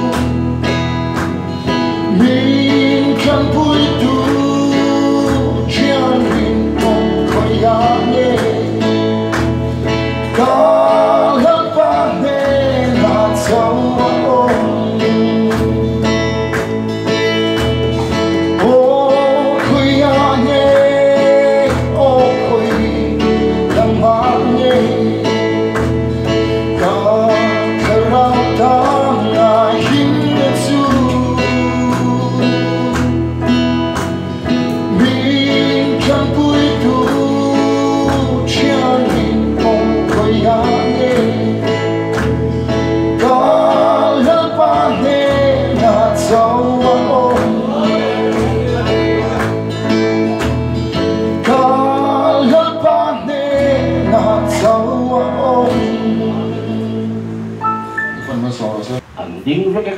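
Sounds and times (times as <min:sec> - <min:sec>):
man singing into a microphone: 0:00.0 - 0:00.3, 0:01.8 - 0:16.5, 0:18.2 - 0:25.8, 0:26.5 - 0:33.6, 0:34.7 - 0:42.2, 0:43.0 - 0:50.0, 0:51.3 - 0:57.6
strummed acoustic guitar: 0:00.0 - 0:58.4
electronic keyboard chords: 0:00.0 - 0:59.0.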